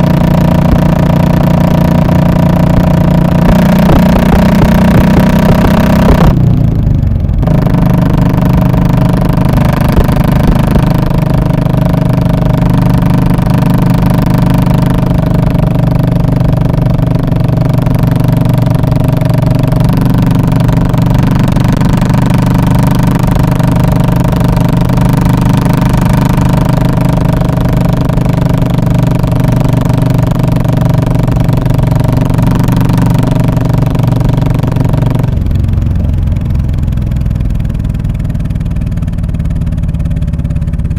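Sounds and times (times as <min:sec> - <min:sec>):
motorcycle engine exhaust note: 0:00.0 - 0:40.9.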